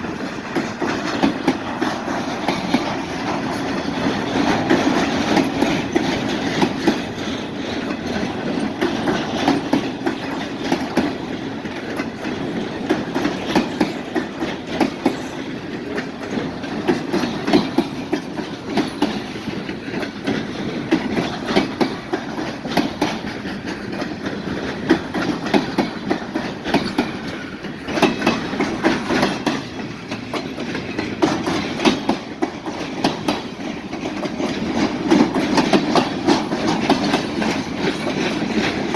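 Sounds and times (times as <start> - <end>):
freight train cars rolling: 0.0 - 38.9
train wheels clacking over rail joints: 0.0 - 38.9.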